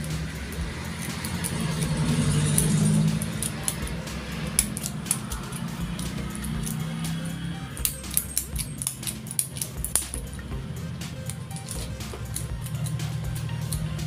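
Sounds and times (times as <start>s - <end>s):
steady low hum: 0.0s - 14.0s
lock pick clicking in padlock: 0.9s - 10.4s, 11.2s - 14.0s.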